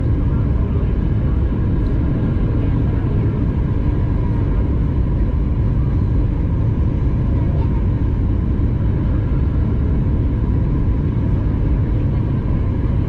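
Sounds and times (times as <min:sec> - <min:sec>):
airplane cabin engine rumble: 0:00.0 - 0:13.0
faint steady whine: 0:00.0 - 0:13.0.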